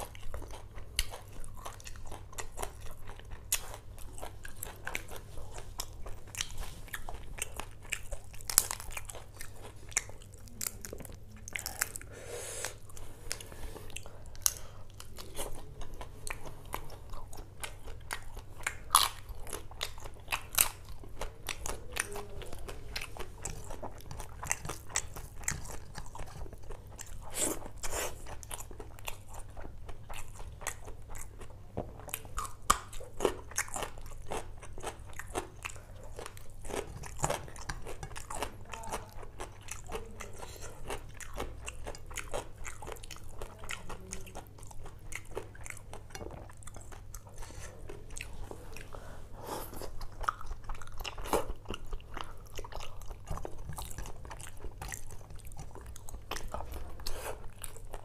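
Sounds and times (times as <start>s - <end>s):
chewing and crunching bites: 0.0s - 49.0s, 49.6s - 58.0s
low steady hum: 0.0s - 58.0s.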